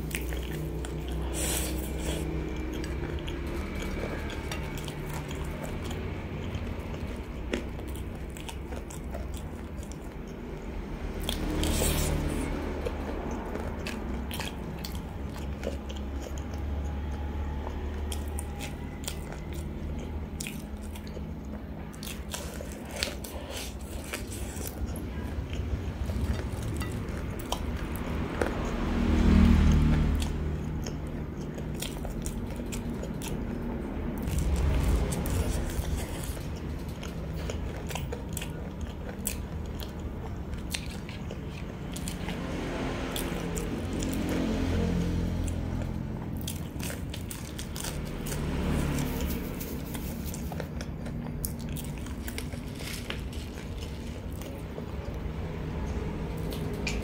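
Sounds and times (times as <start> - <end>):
crunchy bites and chewing: 0.0 - 26.9, 27.5 - 57.0.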